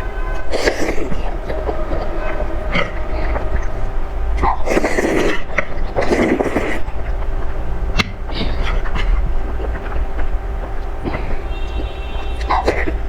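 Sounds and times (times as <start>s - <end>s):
chewing with wet clicks: 0.0s - 13.0s
slurping noodles: 0.0s - 13.0s
steady low rumble: 0.0s - 13.0s.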